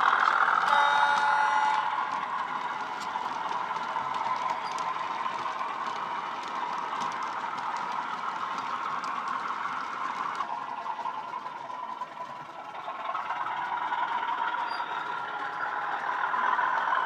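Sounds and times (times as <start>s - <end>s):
model train wagons rattling: 0.0s - 17.0s.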